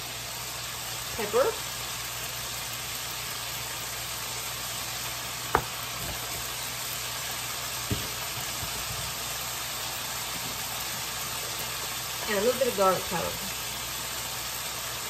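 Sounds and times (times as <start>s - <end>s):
chicken sizzling in a skillet: 0.0s - 15.0s.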